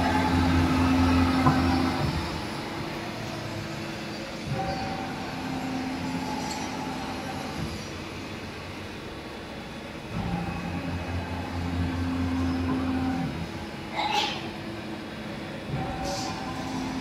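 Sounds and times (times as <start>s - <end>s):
milling machine humming: 0.0s - 13.9s.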